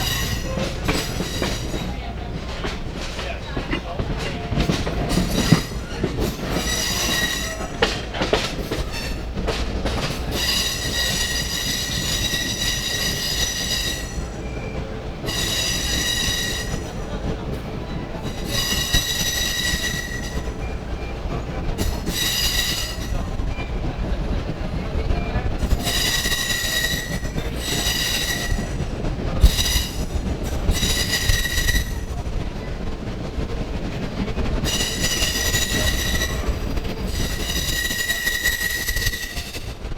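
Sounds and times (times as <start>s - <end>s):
train rumbling: 0.0s - 39.9s
wheels squealing on rails: 0.0s - 39.9s.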